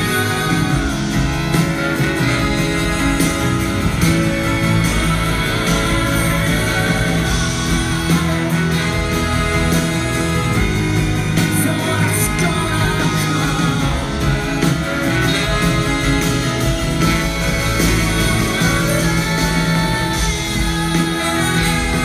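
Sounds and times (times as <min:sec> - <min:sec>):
guitar: 0:00.0 - 0:22.0
live band playing: 0:00.0 - 0:22.0
low bass: 0:00.0 - 0:22.0.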